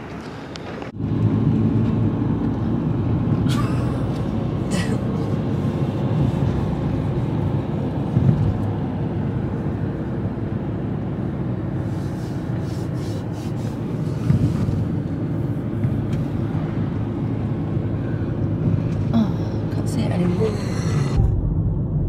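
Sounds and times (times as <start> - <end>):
vehicle road and engine rumble: 0.0 - 22.0.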